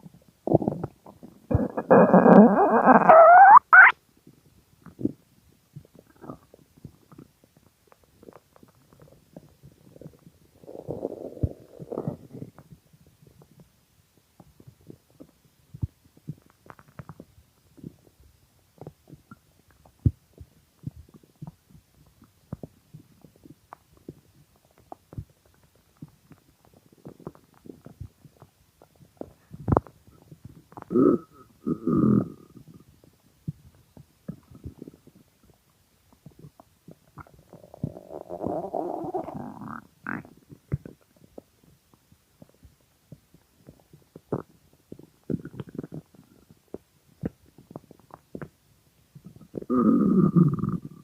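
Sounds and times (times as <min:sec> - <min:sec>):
stomach gurgling and growling: 0:00.0 - 0:51.0.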